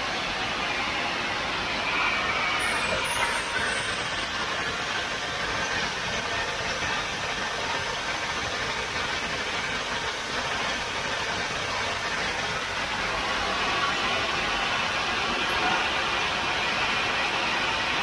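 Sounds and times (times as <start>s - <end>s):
machine running steadily: 0.0s - 18.0s.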